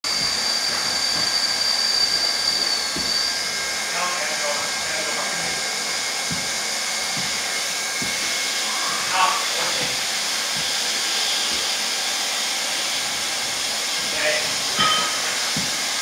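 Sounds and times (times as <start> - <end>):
hot-air welding gun blowing: 0.0 - 16.0
thin high whine: 0.0 - 16.0.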